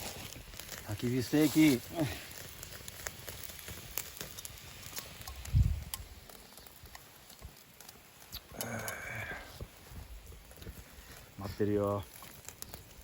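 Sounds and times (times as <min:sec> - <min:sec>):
campfire crackling and popping: 0:00.0 - 0:13.0
steak sizzling on grill: 0:00.0 - 0:13.0.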